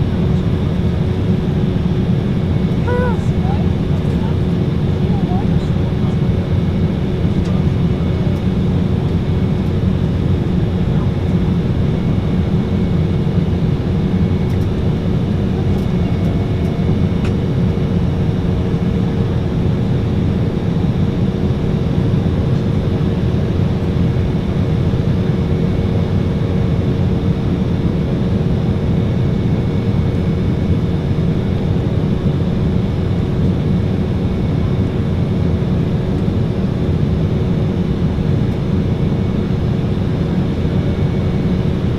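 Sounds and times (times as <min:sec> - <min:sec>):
jet cabin rumble: 0:00.0 - 0:41.9
steady hums: 0:00.0 - 0:41.9.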